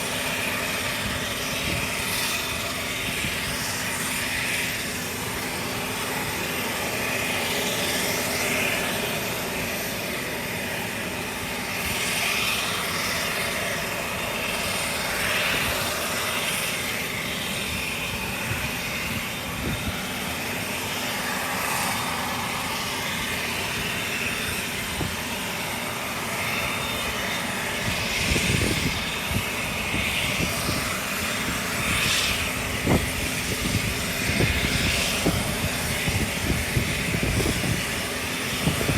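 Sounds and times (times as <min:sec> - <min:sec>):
turboprop engine whine: 0:00.0 - 0:38.9.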